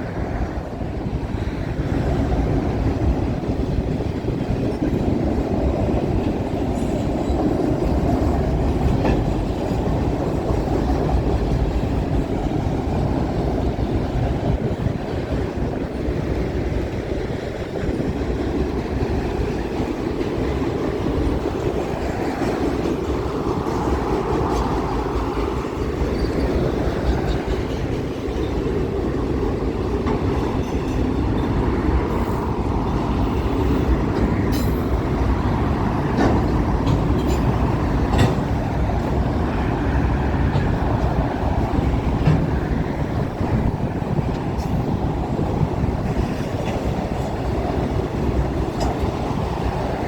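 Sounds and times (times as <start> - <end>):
freight train wheels rumbling: 0.0 - 50.0
wheels clacking over rail joints: 0.1 - 50.0.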